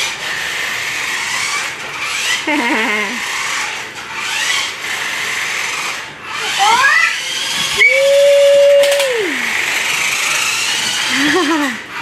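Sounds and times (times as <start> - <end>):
toy motorcycle electric motor whirring: 0.0 - 12.0.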